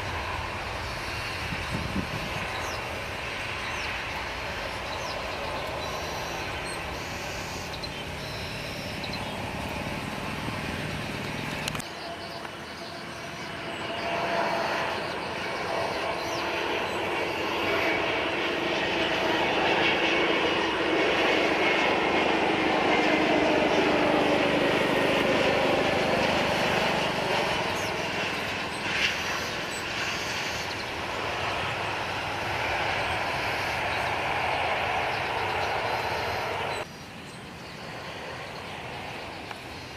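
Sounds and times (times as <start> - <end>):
airliner engines with whining tones: 0.0 - 39.9
low steady engine hum: 0.0 - 39.9.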